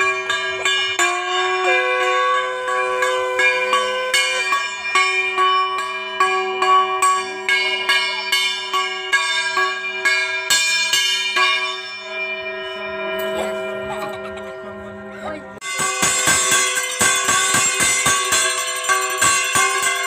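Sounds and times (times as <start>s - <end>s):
brass hand bell ringing: 0.0s - 20.0s.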